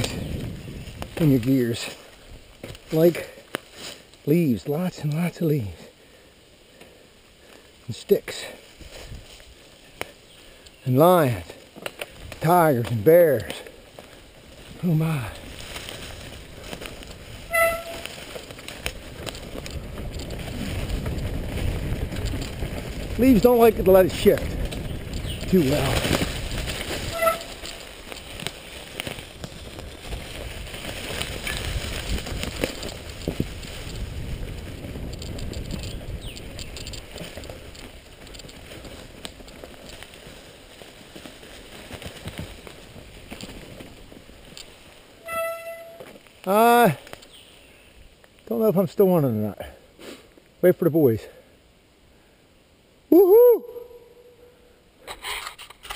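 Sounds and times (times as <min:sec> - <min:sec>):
bike tyre rumble on dirt: 0:00.0 - 0:51.6.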